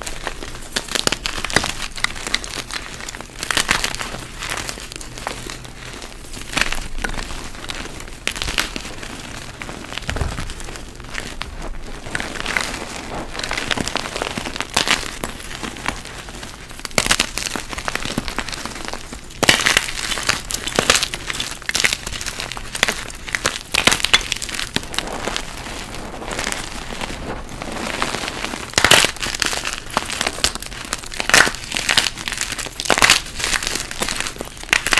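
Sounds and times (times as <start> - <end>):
chalk crunching and crackling: 0.0 - 34.9.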